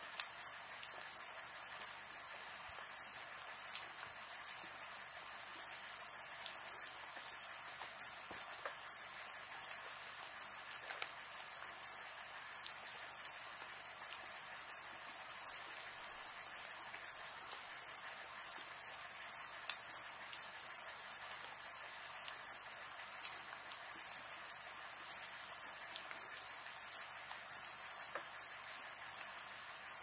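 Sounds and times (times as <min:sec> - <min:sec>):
insect chirping: 0:00.0 - 0:30.0
rain hiss: 0:00.0 - 0:30.0.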